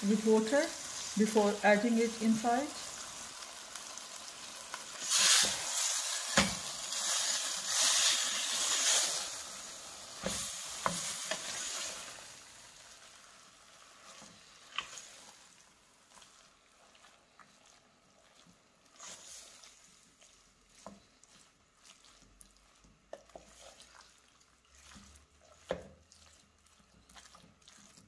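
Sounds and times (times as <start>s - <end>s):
meat sizzling in oil: 0.0s - 28.0s.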